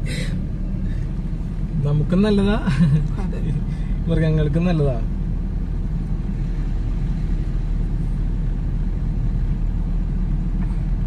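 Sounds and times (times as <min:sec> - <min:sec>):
car driving slowly on road: 0:00.0 - 0:11.0.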